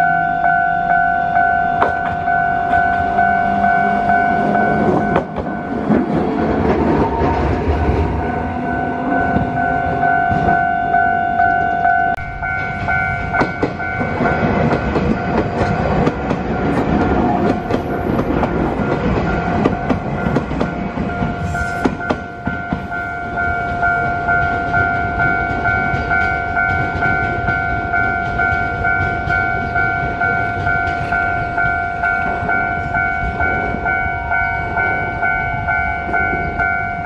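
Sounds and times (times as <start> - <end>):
two-tone crossing bell ringing: 0.0 - 7.1, 8.0 - 37.0.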